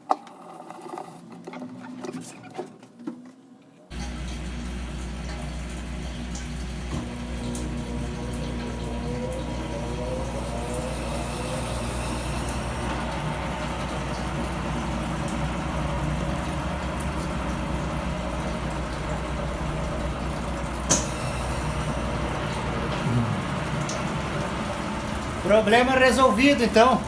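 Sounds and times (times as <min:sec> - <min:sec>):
washing machine motor hum: 0:03.9 - 0:27.0.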